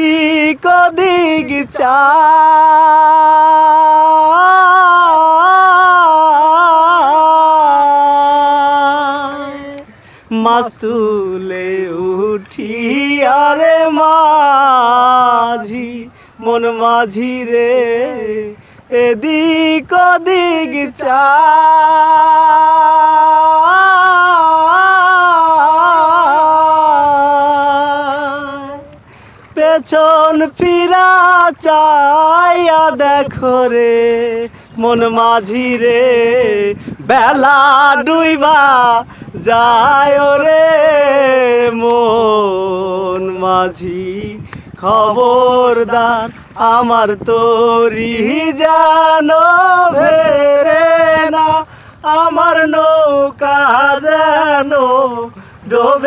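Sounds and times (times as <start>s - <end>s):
man singing unaccompanied: 0.0s - 56.0s.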